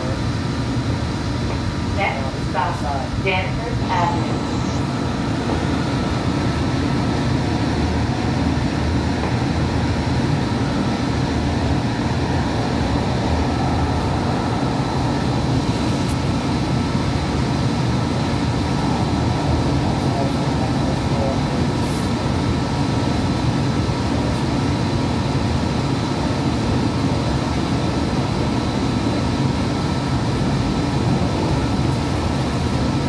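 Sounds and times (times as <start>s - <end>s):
train wheels running on rail: 0.0s - 33.0s.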